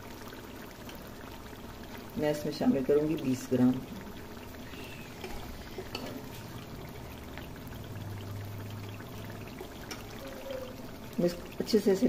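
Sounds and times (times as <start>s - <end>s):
chicken sizzling in ghee: 0.0s - 12.0s
faint crackles: 0.1s - 11.8s.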